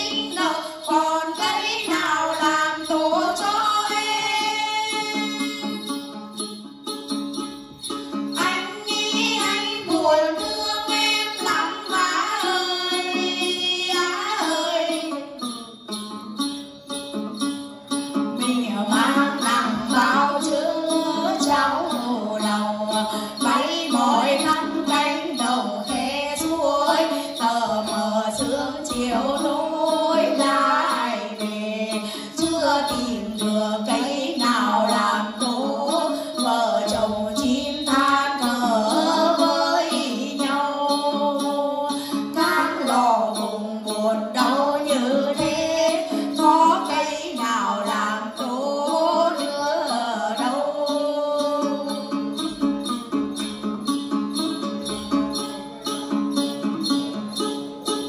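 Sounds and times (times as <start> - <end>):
women singing together: 0.0 - 5.9, 8.3 - 15.6, 18.4 - 52.4
plucked long-necked lute: 0.0 - 58.0.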